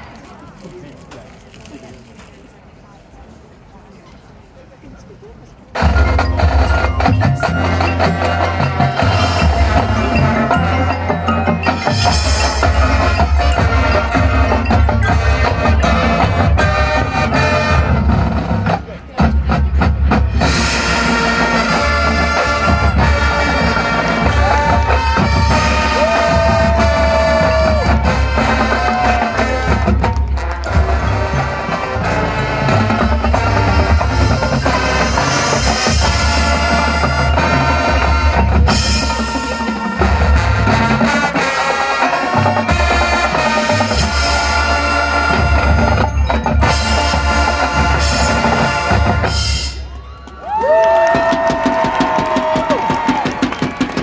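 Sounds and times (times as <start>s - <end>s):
marching band playing: 5.7s - 54.0s.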